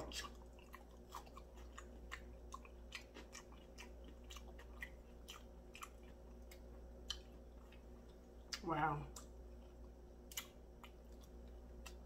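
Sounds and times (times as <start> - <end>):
person chewing crispy chicken: 0.0 - 12.0.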